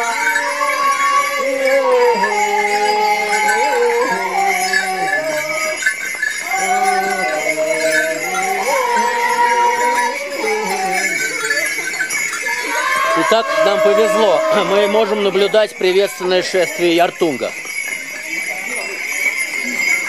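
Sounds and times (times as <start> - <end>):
jingling bells: 0.0 - 20.0.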